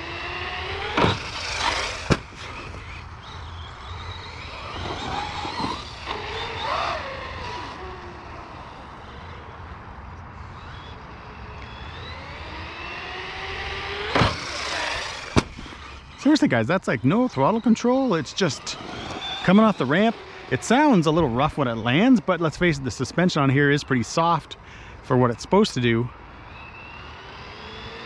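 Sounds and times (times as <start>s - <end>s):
electric motor whining: 0.0s - 16.4s, 17.0s - 22.2s, 26.5s - 28.0s.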